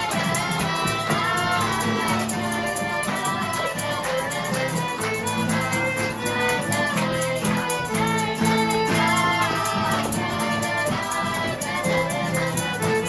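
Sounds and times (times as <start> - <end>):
percussion rattle: 0.0 - 13.0
plucked strings: 0.0 - 13.0.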